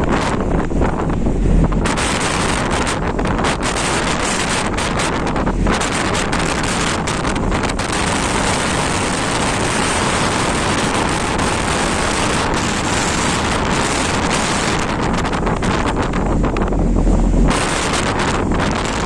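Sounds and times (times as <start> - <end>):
sea: 0.0 - 19.0
strong wind on microphone: 0.0 - 19.0.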